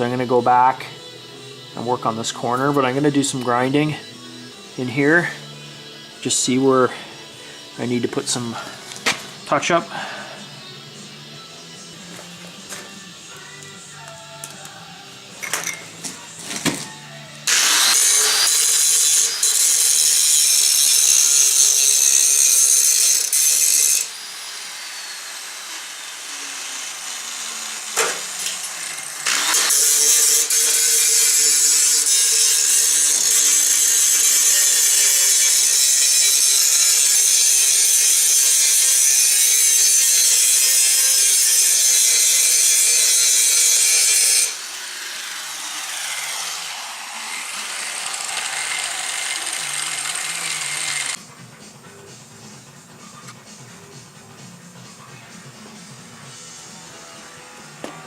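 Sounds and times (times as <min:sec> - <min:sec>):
angle grinder grinding steel: 0:00.0 - 0:51.2.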